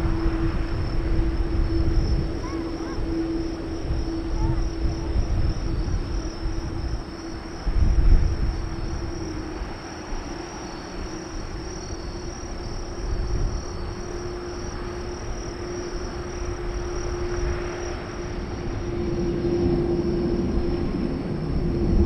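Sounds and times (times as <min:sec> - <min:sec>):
distant jet engines whining: 0:00.0 - 0:22.0
wind on microphone: 0:00.0 - 0:22.0.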